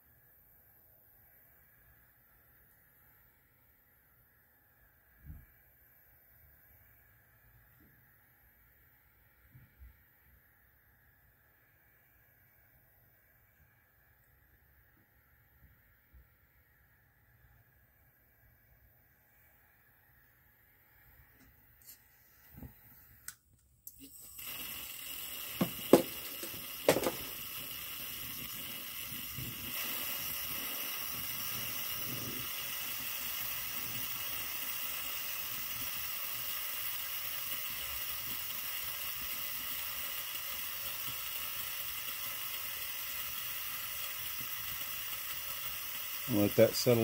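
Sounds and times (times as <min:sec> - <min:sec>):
camp stove burner hissing: 0:00.0 - 0:47.0.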